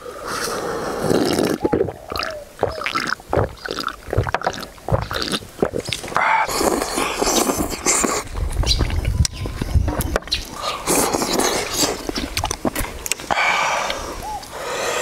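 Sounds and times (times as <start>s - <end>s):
man gulping drink: 0.9s - 14.4s.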